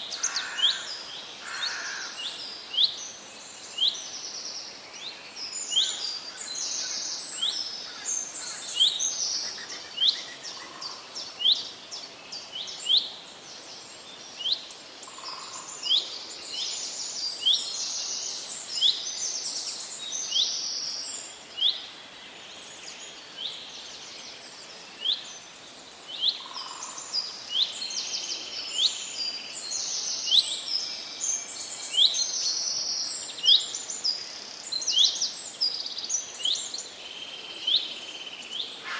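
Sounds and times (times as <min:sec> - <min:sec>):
faint outdoor background noise: 0:00.0 - 0:38.9.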